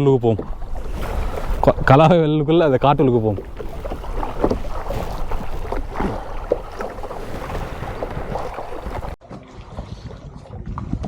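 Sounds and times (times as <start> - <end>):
paddle splashing in water: 0.0 - 9.2.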